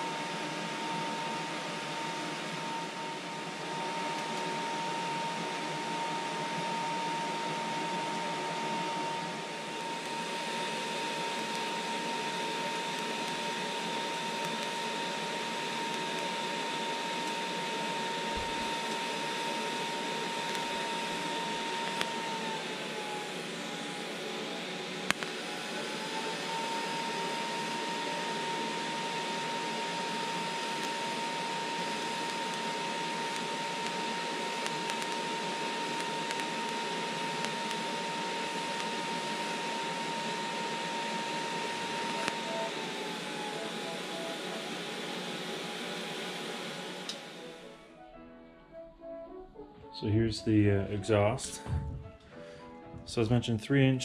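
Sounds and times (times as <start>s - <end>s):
welding torch hiss and whine: 0.0s - 47.9s.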